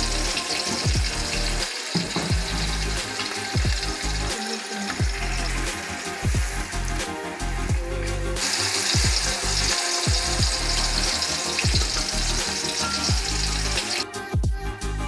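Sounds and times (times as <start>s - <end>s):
meat sizzling in a pot: 0.0s - 14.1s
music with deep bass beat: 0.0s - 15.0s.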